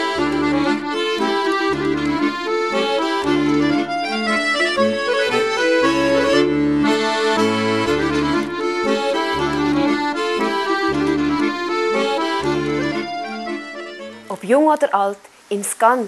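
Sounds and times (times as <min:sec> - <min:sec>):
accordion tune with bass line: 0:00.0 - 0:14.8.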